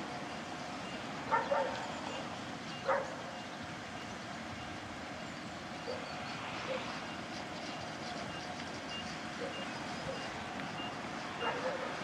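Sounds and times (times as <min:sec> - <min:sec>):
diesel railcar engine idling: 0:00.0 - 0:12.0.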